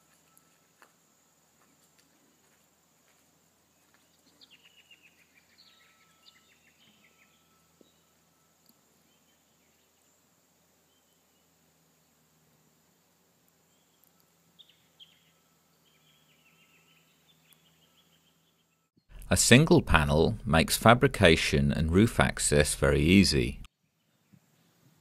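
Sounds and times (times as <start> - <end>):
faint outdoor ambience: 0.0 - 25.0.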